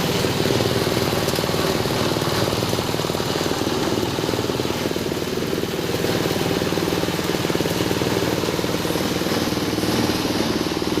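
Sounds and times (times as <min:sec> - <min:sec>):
shredder machine chugging: 0:00.0 - 0:11.0.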